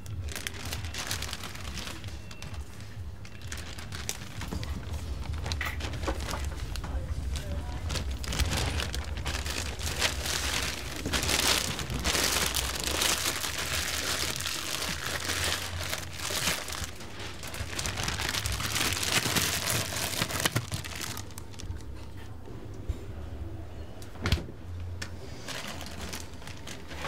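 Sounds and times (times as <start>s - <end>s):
oil crackles: 0.0s - 22.0s, 25.3s - 27.0s.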